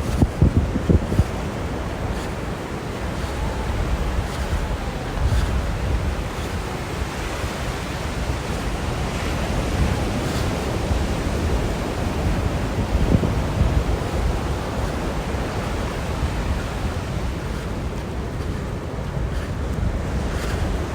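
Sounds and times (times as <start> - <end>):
ocean surf washing: 0.0 - 20.9
wind rumbling on microphone: 0.0 - 20.9.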